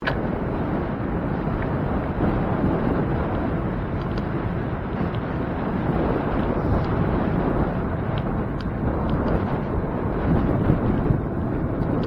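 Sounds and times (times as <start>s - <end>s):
bicycle ride rumble: 0.0s - 12.0s
wind rushing over microphone: 0.0s - 12.0s.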